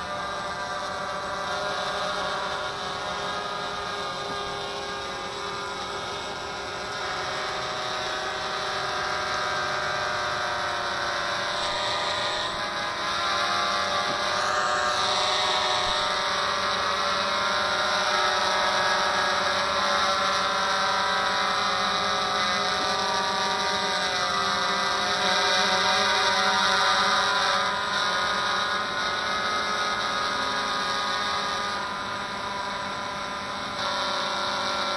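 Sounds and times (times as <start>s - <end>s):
quadcopter motors whining: 0.0s - 34.9s.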